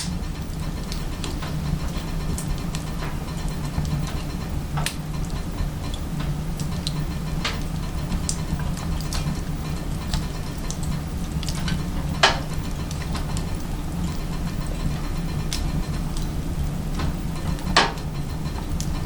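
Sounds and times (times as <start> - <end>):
firewood crackling and popping: 0.0 - 19.0
steady low hum: 0.0 - 19.0.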